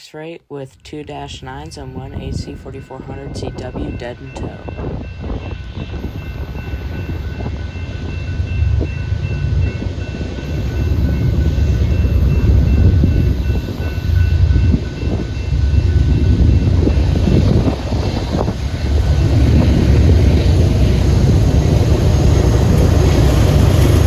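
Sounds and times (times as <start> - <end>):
diesel locomotive engine rumble: 1.1 - 24.0
freight train passing: 1.4 - 24.0.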